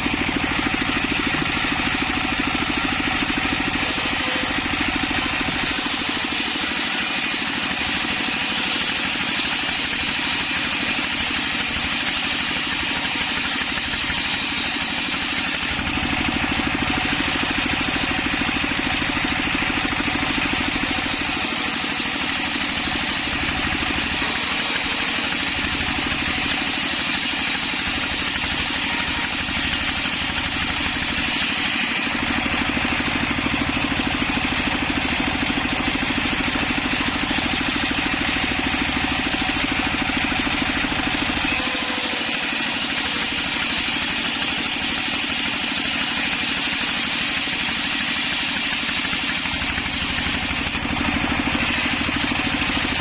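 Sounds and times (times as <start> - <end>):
circular sawmill droning: 0.0 - 53.0.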